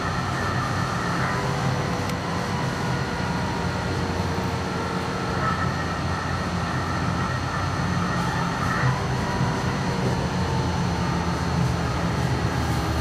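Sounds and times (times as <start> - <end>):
faint steady tones: 0.0 - 13.0
tram wheels rumbling on rails: 0.0 - 13.0.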